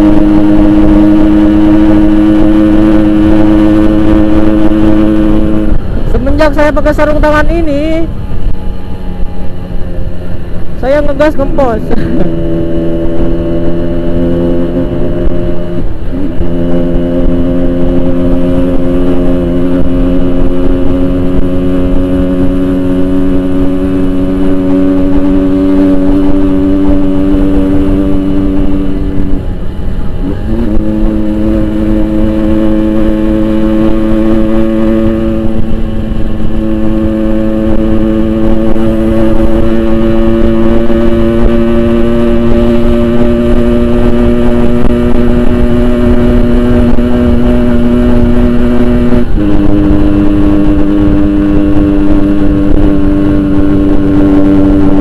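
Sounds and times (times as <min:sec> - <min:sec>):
two-stroke motorcycle engine running: 0:00.0 - 0:55.0.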